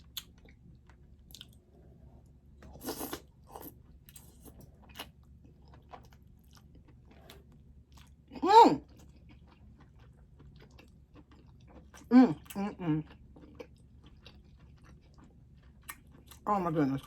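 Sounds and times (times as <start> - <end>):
person chewing with wet smacks: 0.0 - 1.7, 2.6 - 8.2, 8.8 - 17.0.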